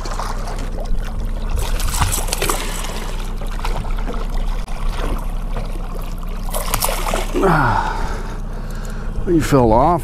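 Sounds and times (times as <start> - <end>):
boat motor humming: 0.0 - 10.0
water lapping at boat: 0.0 - 10.0.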